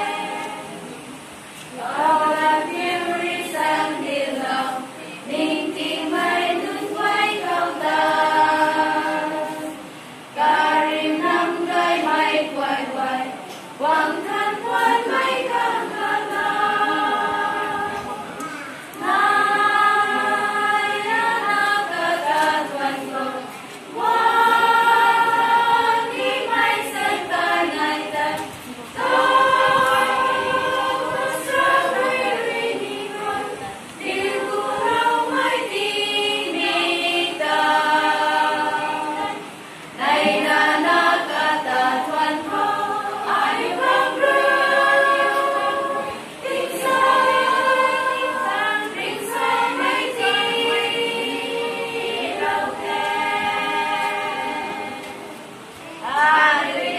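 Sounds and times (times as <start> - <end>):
women singing a hymn: 0.0 - 56.9.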